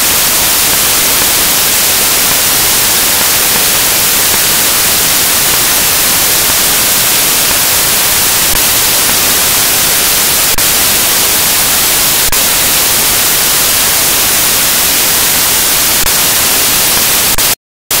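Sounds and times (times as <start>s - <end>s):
static hiss: 0.0s - 18.0s.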